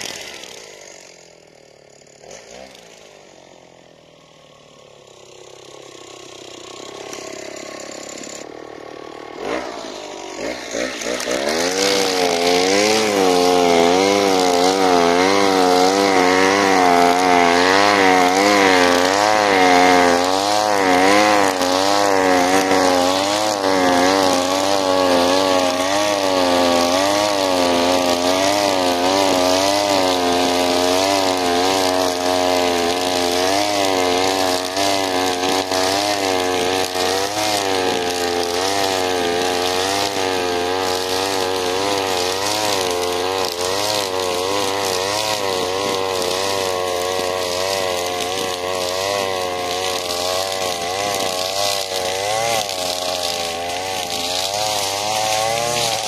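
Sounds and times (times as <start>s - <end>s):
brushcutter engine running: 0.0s - 56.0s.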